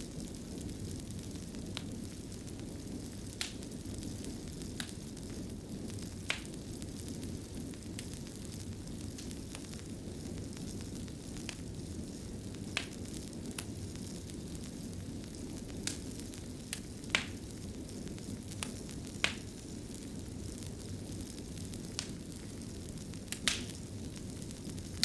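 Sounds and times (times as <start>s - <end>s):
fire crackling and popping: 0.0s - 25.0s
wood fire rumbling: 0.0s - 25.0s.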